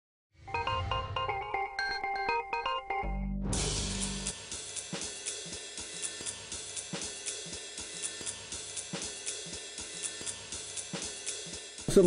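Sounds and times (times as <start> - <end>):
drum kit beat: 0.6 - 12.0.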